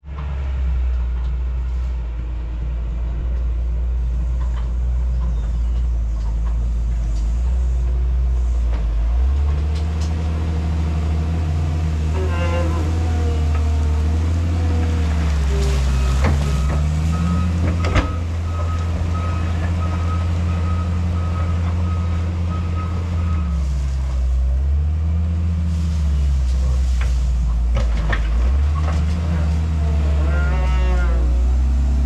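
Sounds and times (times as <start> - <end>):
heavy diesel engine revving: 0.0 - 32.0.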